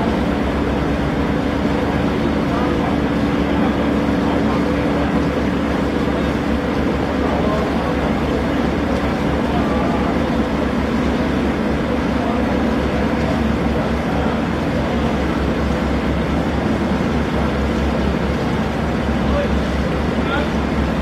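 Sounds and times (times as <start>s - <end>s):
ship diesel engine rumbling: 0.0s - 21.0s.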